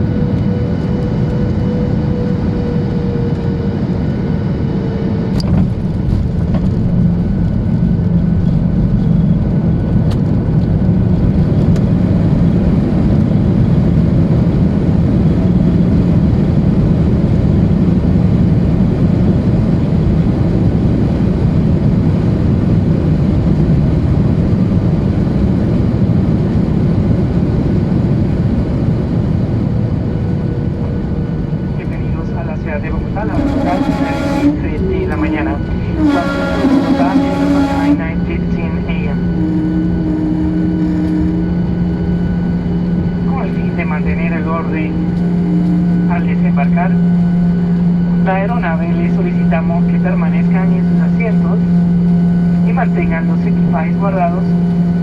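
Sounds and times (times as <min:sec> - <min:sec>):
airplane cabin engine noise: 0:00.0 - 0:55.0.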